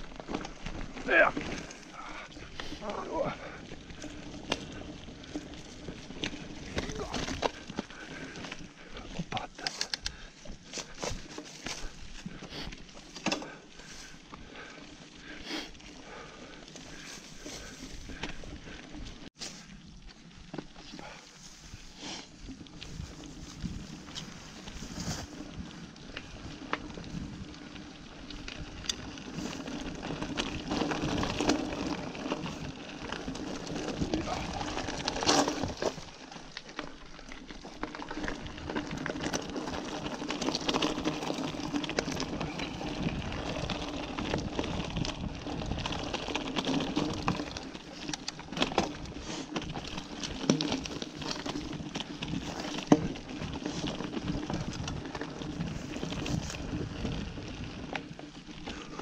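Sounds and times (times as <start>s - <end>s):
bike clicks and rattles: 0.0s - 59.0s
bike tyres crunching on dirt: 0.0s - 59.0s.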